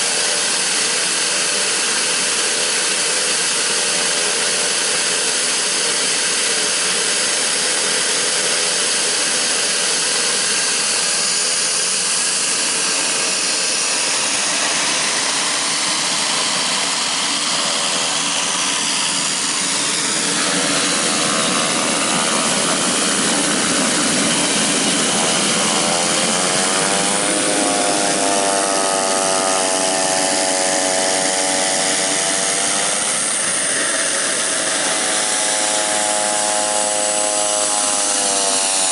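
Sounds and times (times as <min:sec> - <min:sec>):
multi-tone whine: 0:00.0 - 0:38.9
turboprop engine running: 0:00.0 - 0:38.9.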